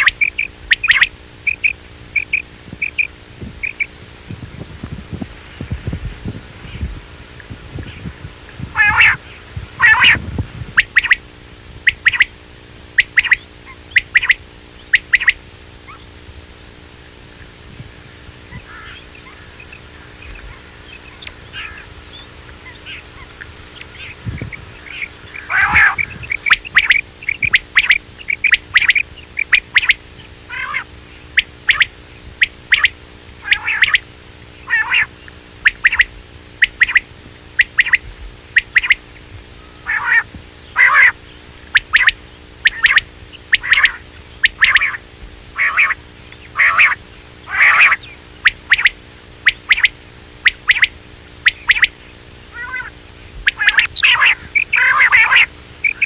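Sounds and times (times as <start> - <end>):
quail calling: 0.0 - 16.2, 17.0 - 56.0.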